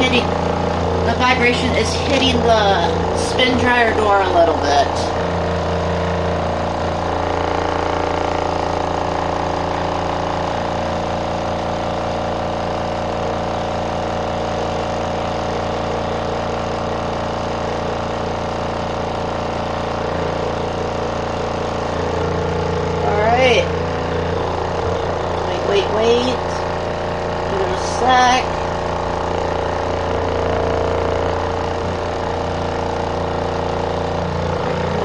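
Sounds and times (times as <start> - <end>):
spin dryer motor hum: 0.0 - 35.0.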